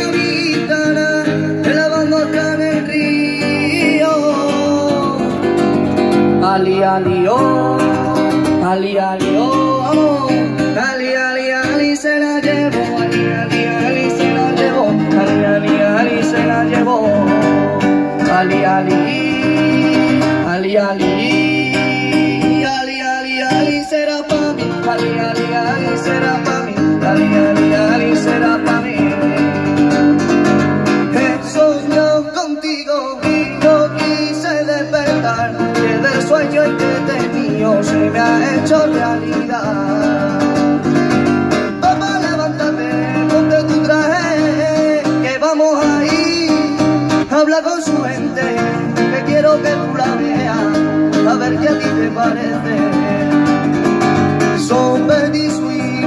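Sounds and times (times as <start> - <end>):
strummed acoustic guitar: 0.0 - 56.0.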